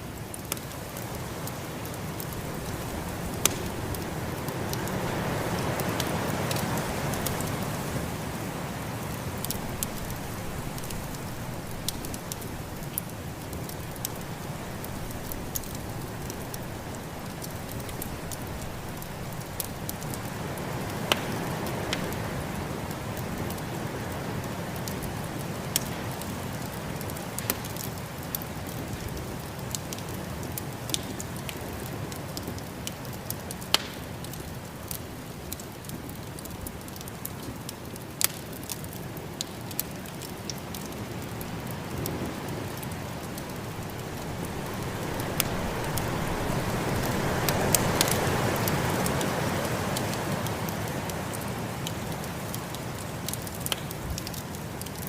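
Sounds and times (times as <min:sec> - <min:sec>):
snowstorm wind hiss: 0:00.0 - 0:30.6, 0:39.1 - 0:54.8
wood fire crackling and popping: 0:00.0 - 0:55.0.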